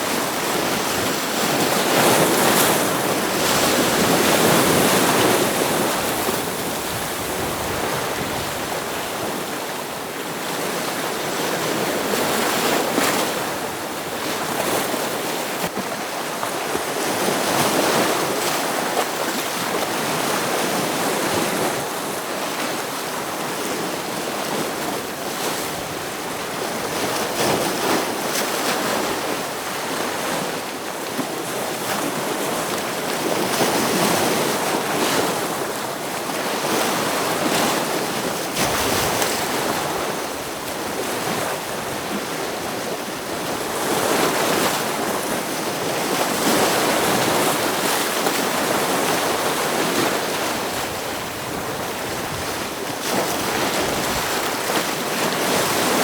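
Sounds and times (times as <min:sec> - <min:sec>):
ocean waves breaking on rocks: 0:00.0 - 0:56.0.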